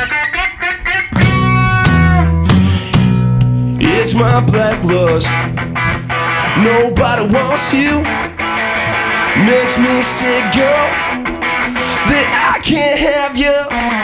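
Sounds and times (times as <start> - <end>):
guitars strummed: 0.0 - 14.0
live rock band playing: 0.0 - 14.0.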